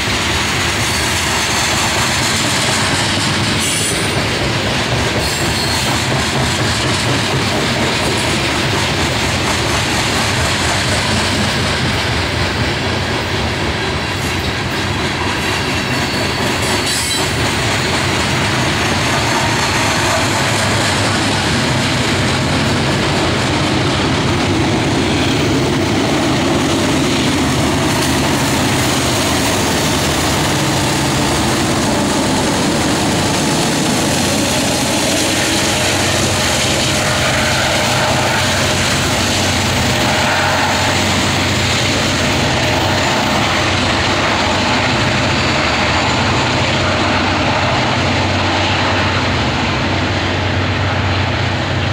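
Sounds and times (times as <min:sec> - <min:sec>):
diesel locomotive engines droning: 0:00.0 - 0:51.9
train cars rolling past: 0:00.0 - 0:51.9.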